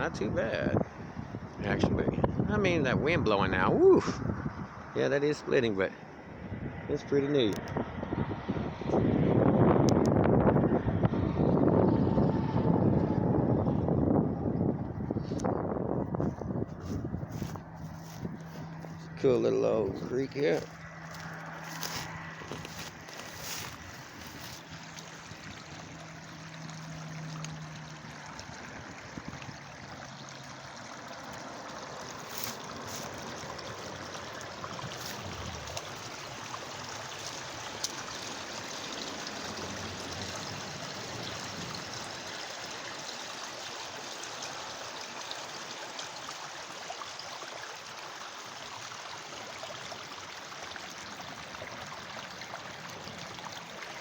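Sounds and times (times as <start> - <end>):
creek water trickling: 0.0 - 54.0.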